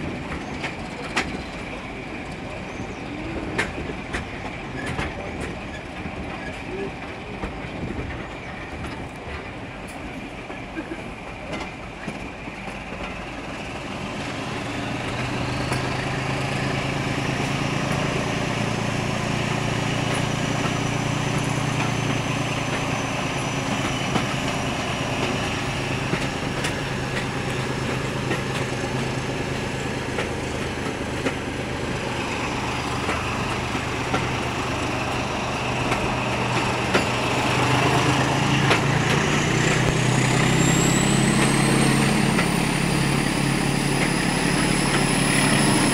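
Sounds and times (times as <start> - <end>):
locomotive diesel engine working: 0.0 - 45.9.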